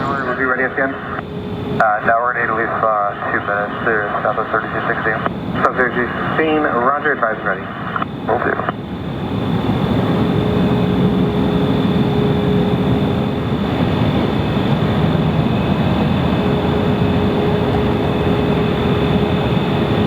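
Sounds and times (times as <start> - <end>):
jet engines roaring: 0.0 - 20.0
thin steady whine: 0.0 - 20.0.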